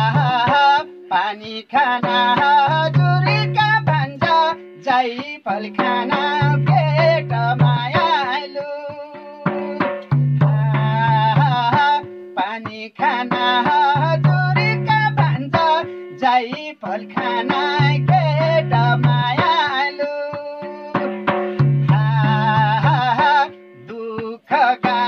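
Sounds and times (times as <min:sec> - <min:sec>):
hand drum beating: 0:00.0 - 0:25.0
man singing folk song: 0:00.0 - 0:25.0.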